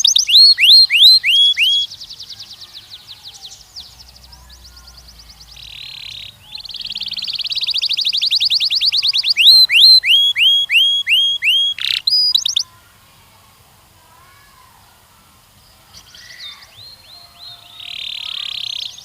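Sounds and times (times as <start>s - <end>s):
canary singing: 0.0s - 12.8s, 15.9s - 19.0s.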